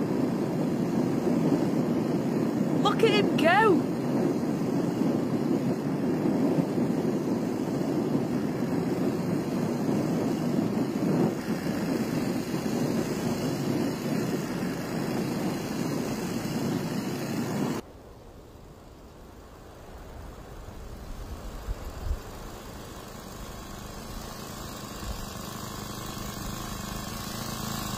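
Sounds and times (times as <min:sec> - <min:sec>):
engine-driven propeller drone: 0:00.0 - 0:17.8, 0:19.6 - 0:27.9.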